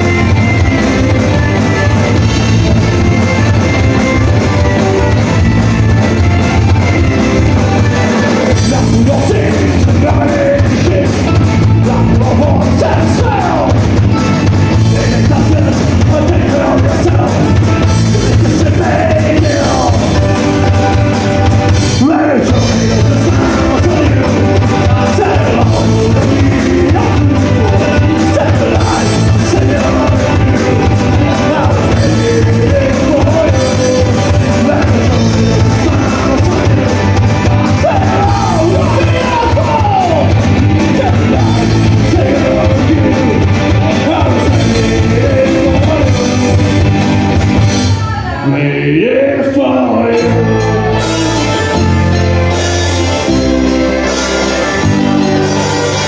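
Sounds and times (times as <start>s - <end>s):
drum kit: 0.0s - 48.5s, 49.9s - 56.0s
bass guitar: 0.0s - 56.0s
electric guitar: 0.0s - 56.0s
person singing: 0.0s - 56.0s.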